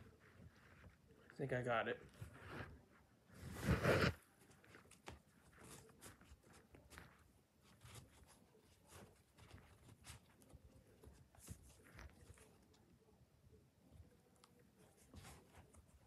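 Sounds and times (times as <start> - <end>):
faint clicks and rustles: 0.0 - 16.0.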